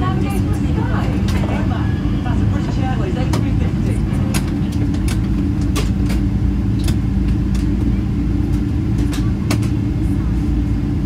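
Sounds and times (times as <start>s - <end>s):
aircraft cabin engine rumble: 0.0s - 11.0s
low hum: 0.0s - 11.0s.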